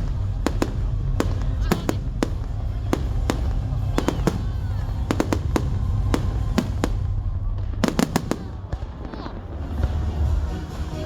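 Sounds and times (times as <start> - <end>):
low rumble: 0.0 - 10.4
fireworks bangs: 0.0 - 10.7.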